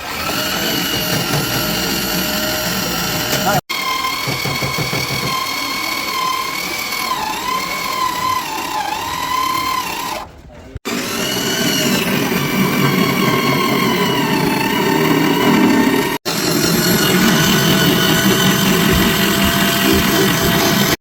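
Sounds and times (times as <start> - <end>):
power tool whining: 0.0 - 21.0.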